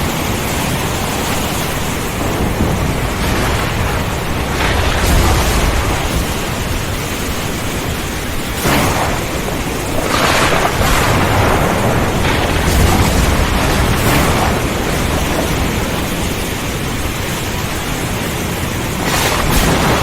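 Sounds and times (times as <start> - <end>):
heavy rain: 0.0 - 20.0
rolling thunder: 0.0 - 20.0
sharp thunder crack: 1.5 - 20.0.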